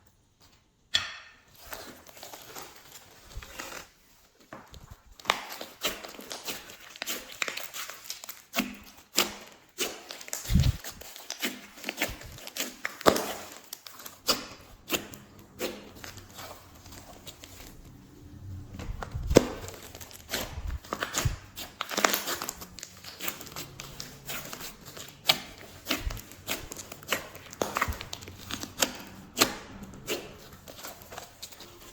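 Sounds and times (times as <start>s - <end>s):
slime squished by hand: 5.2s - 31.9s.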